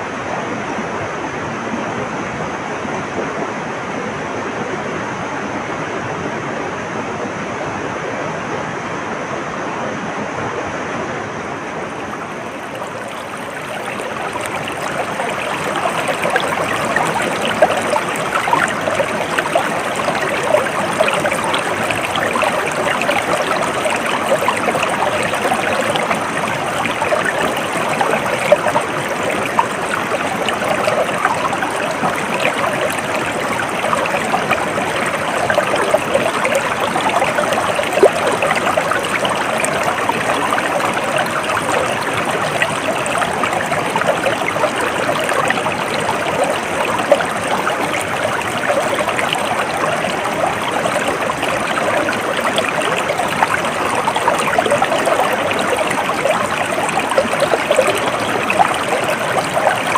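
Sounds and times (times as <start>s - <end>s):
stream water babbling: 0.0s - 59.9s.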